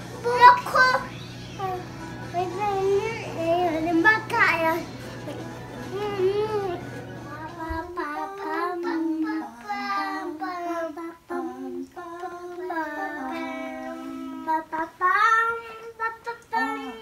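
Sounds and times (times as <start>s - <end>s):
young child singing: 0.2s - 17.0s.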